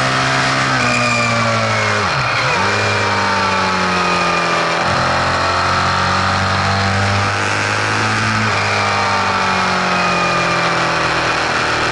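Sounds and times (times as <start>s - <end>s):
car engine humming with whine: 0.0s - 11.9s.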